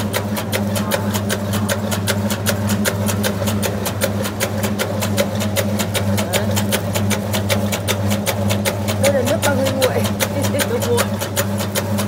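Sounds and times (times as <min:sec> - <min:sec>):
machine motor hum: 0:00.0 - 0:12.0
rapid machine clicking: 0:00.0 - 0:12.0.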